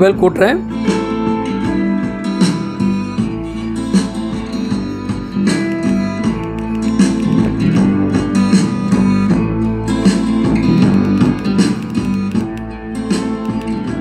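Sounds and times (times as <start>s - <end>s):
guitar-led song through speakers: 0.0s - 14.0s.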